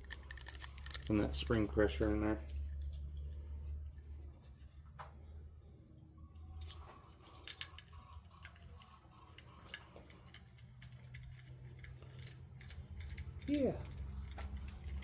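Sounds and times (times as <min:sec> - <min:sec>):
small metal parts clicking: 0:00.0 - 0:03.6, 0:06.3 - 0:15.0
low steady hum: 0:00.0 - 0:15.0.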